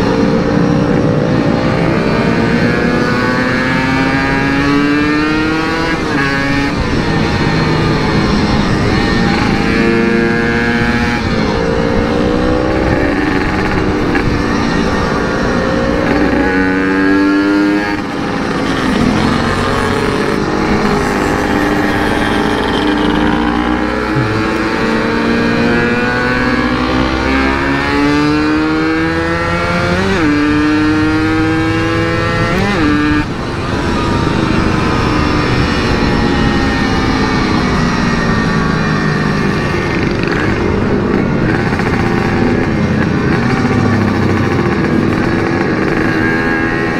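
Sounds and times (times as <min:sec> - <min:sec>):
two-stroke motorcycle revving: 0:00.0 - 0:46.9.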